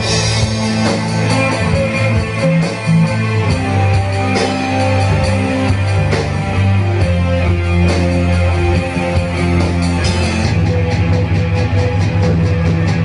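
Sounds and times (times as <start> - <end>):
electric bass: 0.0 - 13.0
electric guitar: 0.0 - 13.0
electronic drum kit: 0.0 - 13.0
keyboard: 0.0 - 13.0.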